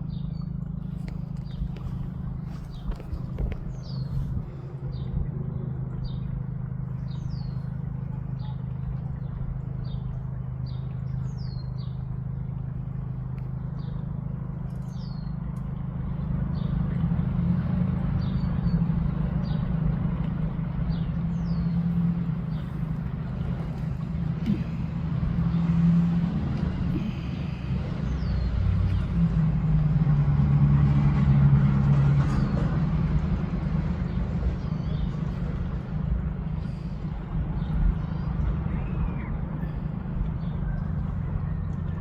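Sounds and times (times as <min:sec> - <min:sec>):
low motor hum: 0:00.0 - 0:42.0.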